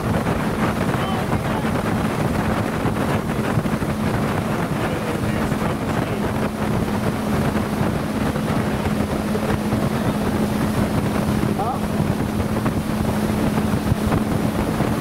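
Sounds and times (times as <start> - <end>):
motorboat engine humming: 0.0 - 15.0
water noise: 0.0 - 15.0
wind buffeting microphone: 0.0 - 15.0.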